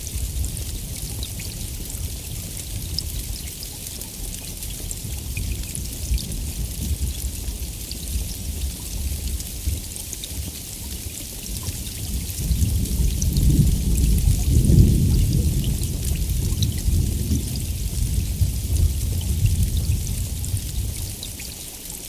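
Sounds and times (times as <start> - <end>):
low rumble of thunder: 0.0 - 21.6
steady heavy rain: 0.0 - 22.0.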